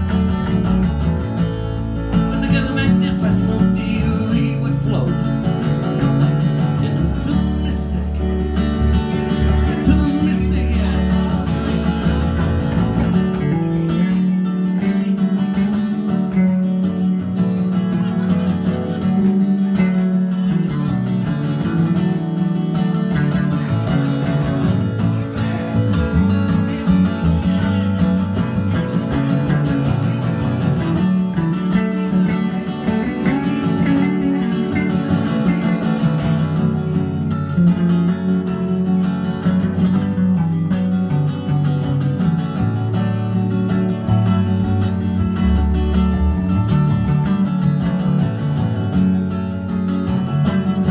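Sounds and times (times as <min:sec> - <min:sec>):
acoustic guitar strumming: 0:00.0 - 0:50.9
electric bass line: 0:00.0 - 0:50.9.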